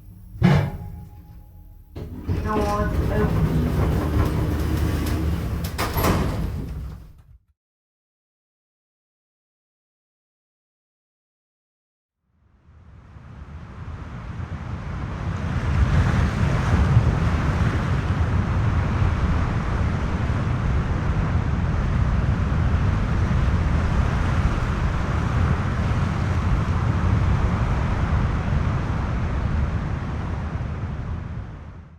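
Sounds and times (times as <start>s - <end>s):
heavy low rumble: 0.0s - 7.2s, 13.3s - 31.9s.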